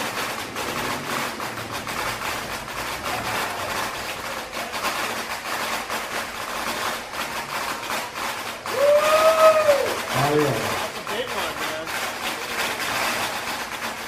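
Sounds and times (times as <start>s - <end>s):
fireworks hissing: 0.0s - 14.0s
sharp crackles: 0.0s - 14.0s.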